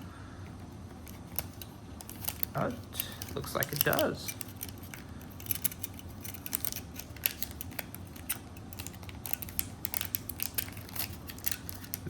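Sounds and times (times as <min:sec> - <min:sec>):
bag crinkling rustles: 0:01.0 - 0:12.0.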